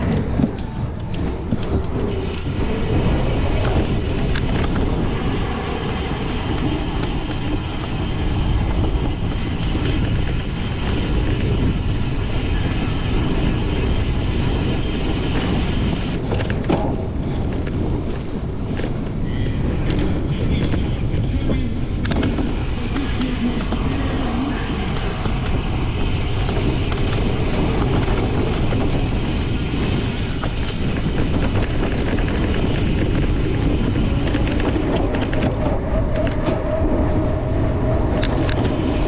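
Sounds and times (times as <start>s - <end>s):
bike rattles and clicks: 0.0s - 39.0s
bike rumbling over rough ground: 0.0s - 39.0s.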